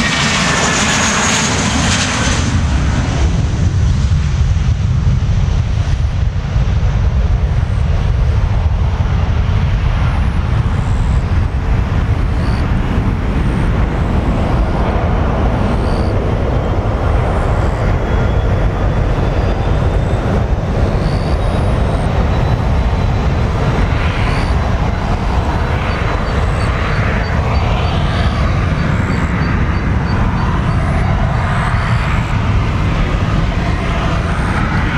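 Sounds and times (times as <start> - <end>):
jet engines rumbling at takeoff: 0.0 - 34.9.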